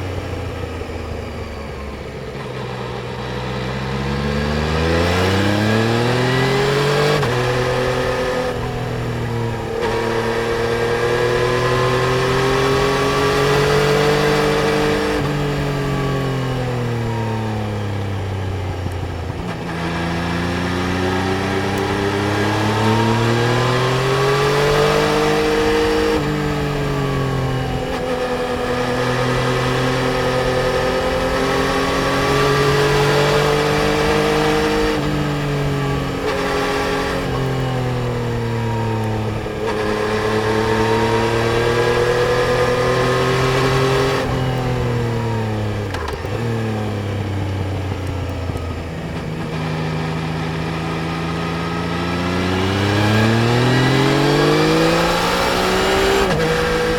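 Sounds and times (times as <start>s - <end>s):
motorcycle engine shifting gears: 0.0s - 56.9s.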